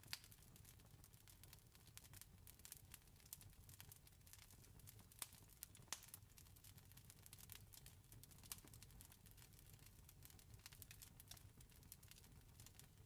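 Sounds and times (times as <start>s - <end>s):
wood fire crackling and snapping: 0.0s - 13.0s.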